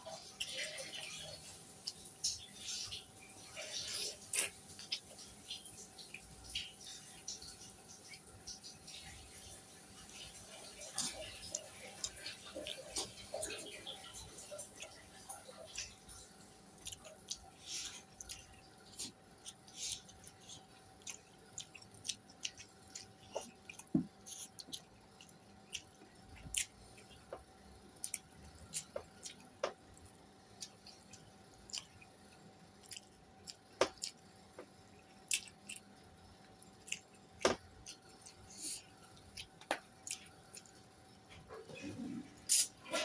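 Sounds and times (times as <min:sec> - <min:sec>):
person chewing food: 0:00.0 - 0:06.3, 0:09.1 - 0:43.0.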